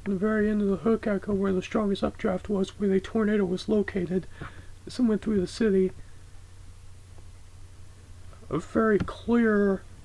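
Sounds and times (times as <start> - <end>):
faint hiss: 0.0 - 10.0
steady low hum: 0.0 - 10.0.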